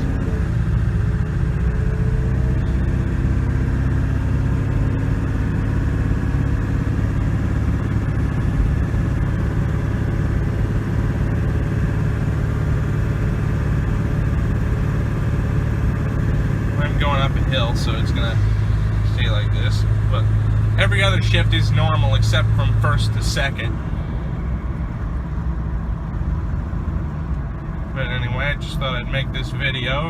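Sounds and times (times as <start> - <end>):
diesel truck engine pulling under load: 0.0 - 25.1.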